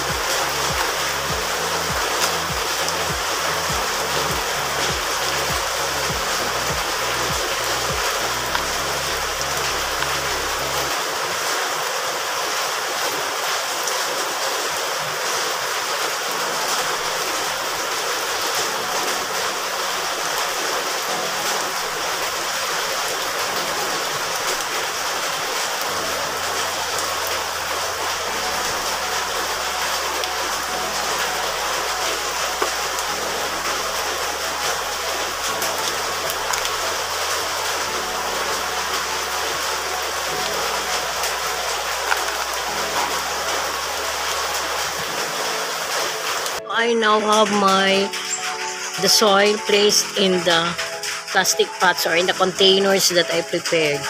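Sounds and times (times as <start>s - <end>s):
rain hissing: 0.0s - 54.0s
soft background music: 0.0s - 54.0s.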